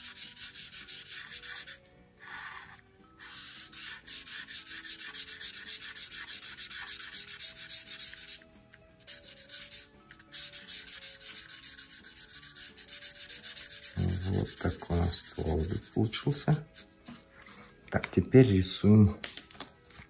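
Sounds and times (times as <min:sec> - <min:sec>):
marker scribbling on paper: 0:00.0 - 0:16.9.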